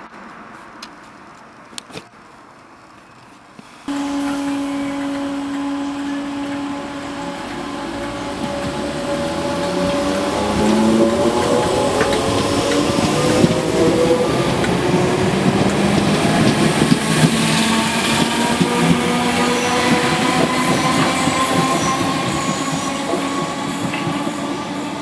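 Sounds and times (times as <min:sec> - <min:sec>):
rail noise: 0:00.0 - 0:25.0
electric train whine: 0:03.9 - 0:25.0.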